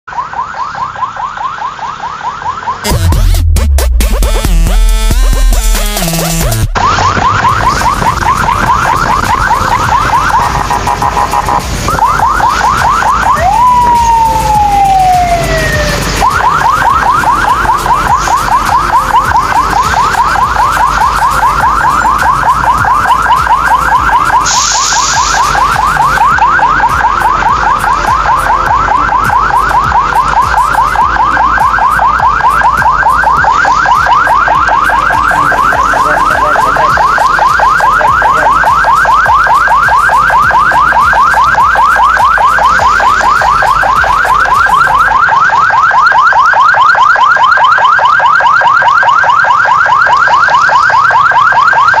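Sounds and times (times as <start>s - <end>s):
electronic siren yelping: 0.0s - 52.0s.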